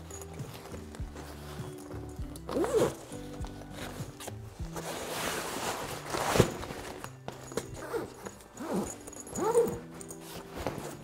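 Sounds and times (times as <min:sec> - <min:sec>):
nylon fabric rustling: 0:00.0 - 0:11.0
soft background music: 0:00.0 - 0:11.0.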